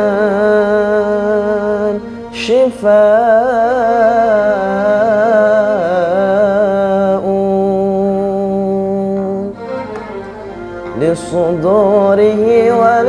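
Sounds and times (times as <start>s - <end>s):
man singing devotional song: 0.0s - 9.8s, 10.8s - 13.0s.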